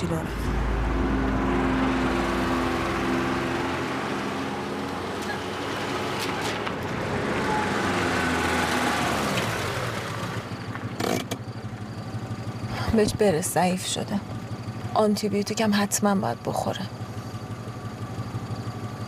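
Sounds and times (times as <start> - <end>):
car engine driving: 0.0 - 19.0.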